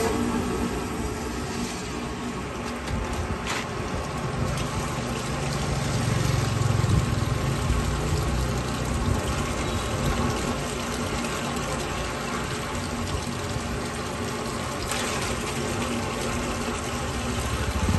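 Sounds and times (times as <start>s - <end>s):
low motor hum: 0.0s - 17.9s
water gushing from a drain pipe: 0.0s - 17.9s.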